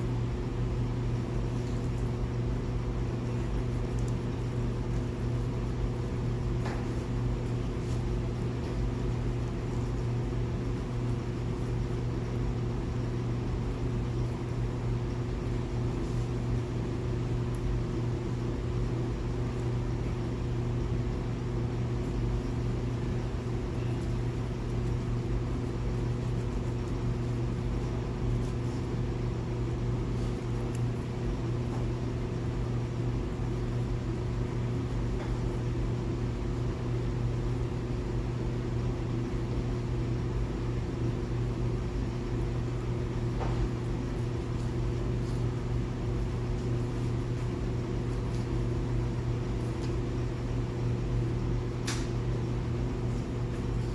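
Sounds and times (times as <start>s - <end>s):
low mechanical hum: 0.0s - 53.9s.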